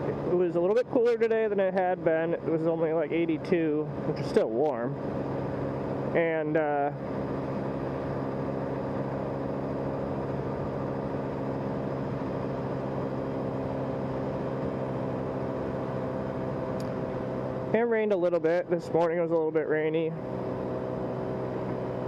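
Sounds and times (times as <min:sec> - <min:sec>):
motorbike engine running: 0:00.0 - 0:19.2, 0:20.1 - 0:22.0
wind and road noise: 0:00.0 - 0:22.0.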